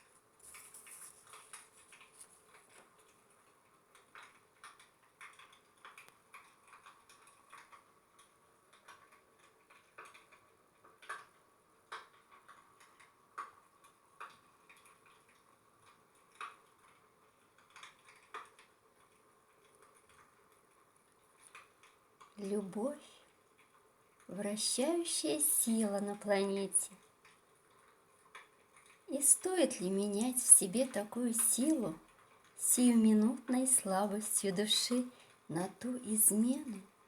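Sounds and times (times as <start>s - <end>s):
fire crackling and popping: 0.0s - 35.5s.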